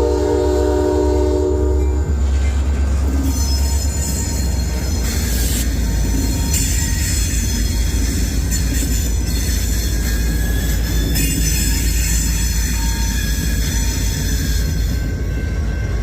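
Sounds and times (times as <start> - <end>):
freight train rumbling on rails: 0.0 - 16.0
high-pitched wheel squeal: 0.6 - 16.0.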